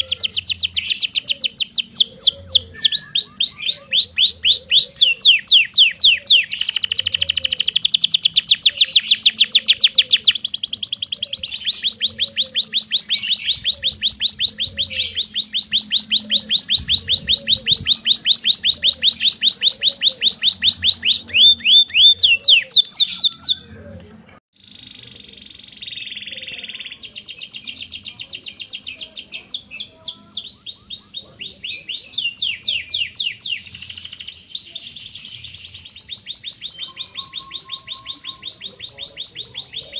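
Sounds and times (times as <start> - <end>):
canary singing trills: 0.0 - 24.0, 24.6 - 39.9.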